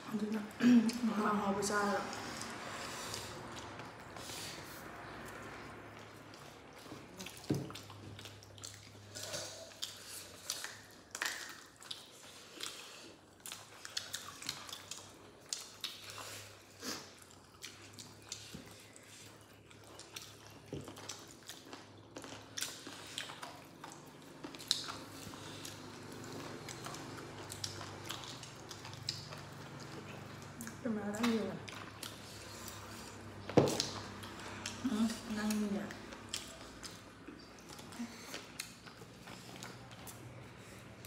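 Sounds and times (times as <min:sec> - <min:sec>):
chewing and lip-smacking: 0:00.0 - 0:41.0.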